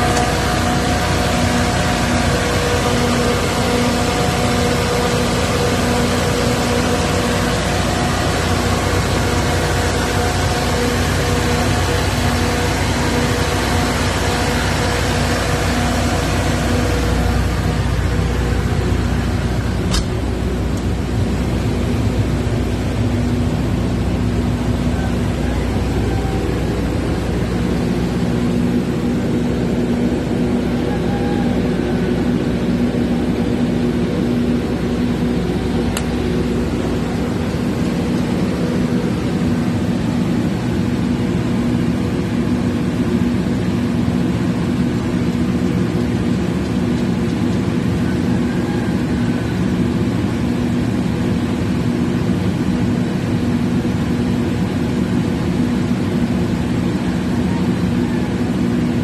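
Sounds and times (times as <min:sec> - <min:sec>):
generator engine humming: 0:00.0 - 0:59.0.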